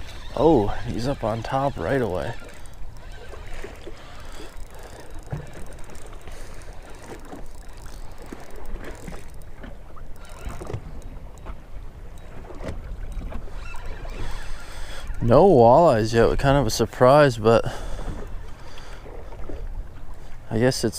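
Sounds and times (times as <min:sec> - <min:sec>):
water lapping against boat hull: 0:00.0 - 0:20.9.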